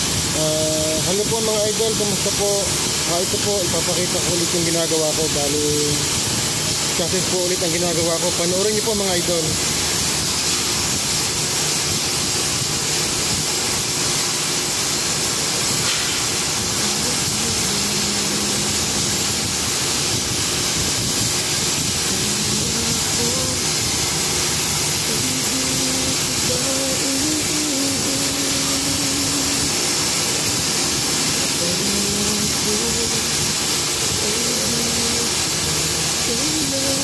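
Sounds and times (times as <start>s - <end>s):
cutting torches hissing: 0.0s - 37.0s.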